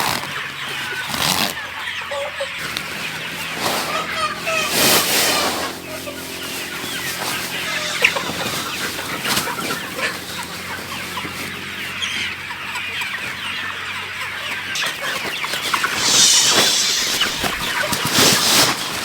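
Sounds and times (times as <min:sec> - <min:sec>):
chickens clucking: 0:00.1 - 0:19.0.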